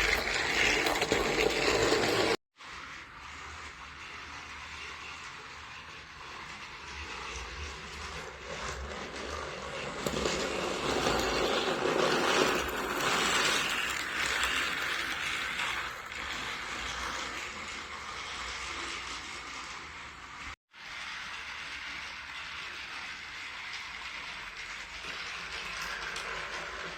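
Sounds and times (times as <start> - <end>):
small toy motor whirring: 0.0 - 26.9
toy wheels clattering on track: 0.0 - 26.9.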